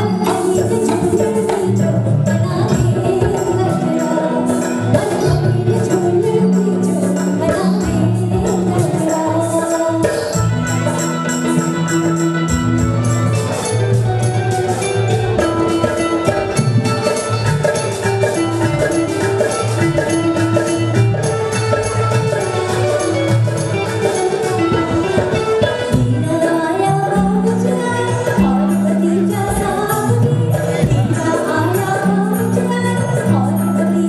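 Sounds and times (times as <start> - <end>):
hand drumming: 0.0 - 34.0
keyboard melody: 0.0 - 34.0.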